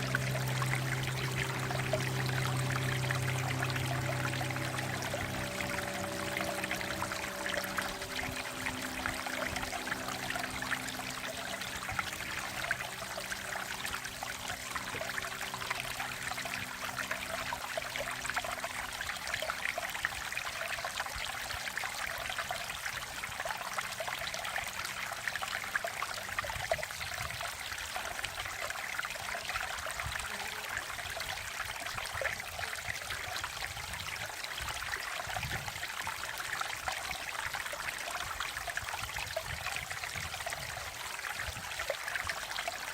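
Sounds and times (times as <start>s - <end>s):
stream flowing over rocks: 0.0s - 42.9s.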